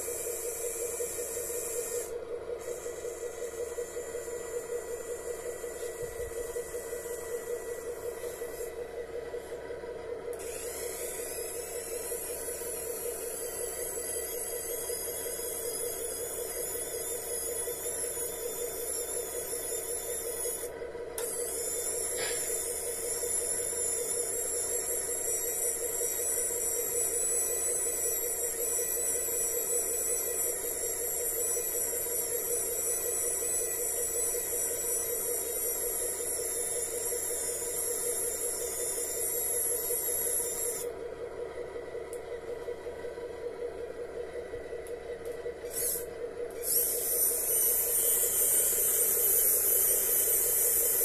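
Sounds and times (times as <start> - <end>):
small electric motors whining: 0.0 - 41.0, 44.8 - 51.0.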